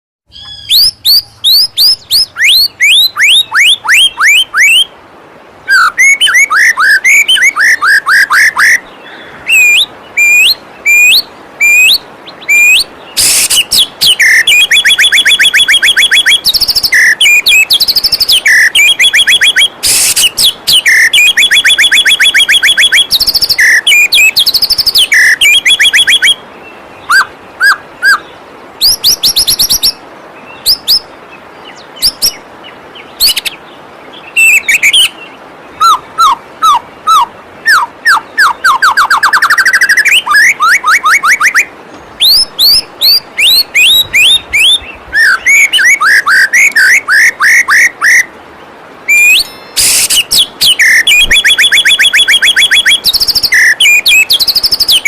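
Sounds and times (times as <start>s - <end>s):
bird singing whistled phrases: 0.3s - 4.9s, 5.6s - 26.4s, 27.0s - 31.1s, 31.7s - 32.4s, 33.2s - 33.6s, 34.2s - 48.3s, 49.1s - 55.0s
waterfall water rushing: 0.7s - 55.0s.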